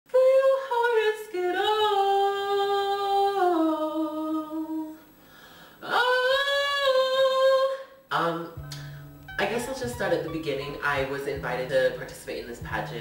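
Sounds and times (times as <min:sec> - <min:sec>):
person singing a cappella: 0:00.1 - 0:05.1, 0:05.8 - 0:13.0.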